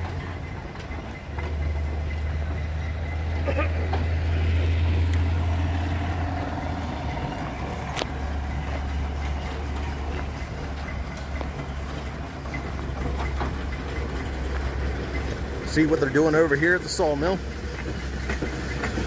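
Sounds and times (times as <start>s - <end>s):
steam engine rumbling: 0.0s - 19.0s.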